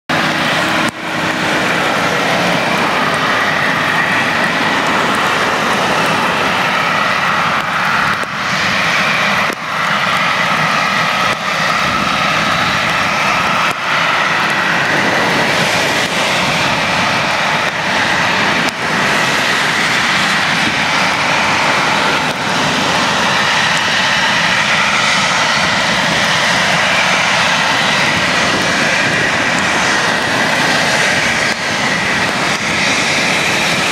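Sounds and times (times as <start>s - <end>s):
jet engines whining: 0.1s - 33.9s
rushing noise: 0.1s - 33.9s.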